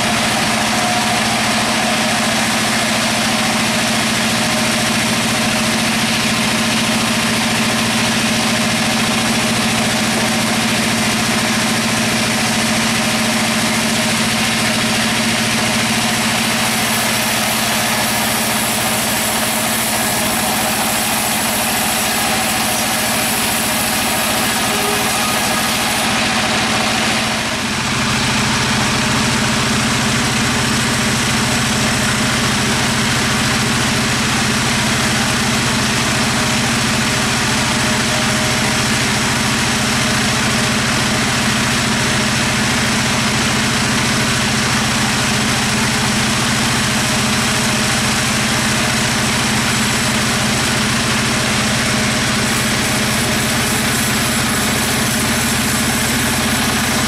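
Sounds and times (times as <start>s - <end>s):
sawmill machinery hum and hiss: 0.0s - 57.0s.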